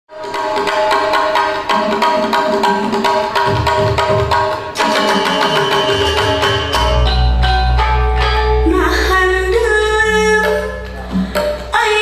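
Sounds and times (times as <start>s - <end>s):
hand drums: 0.1s - 12.0s.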